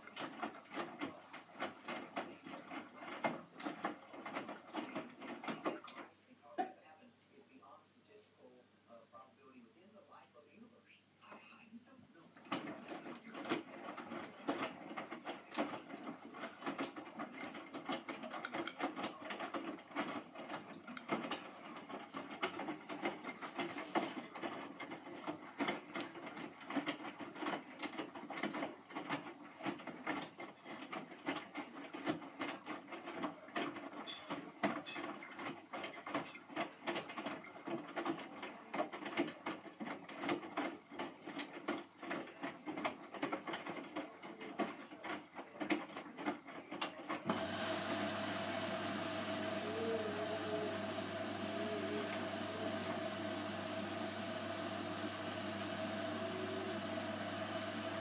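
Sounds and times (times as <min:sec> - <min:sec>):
washing machine sloshing clothes: 0:00.0 - 0:06.1, 0:12.4 - 0:58.0.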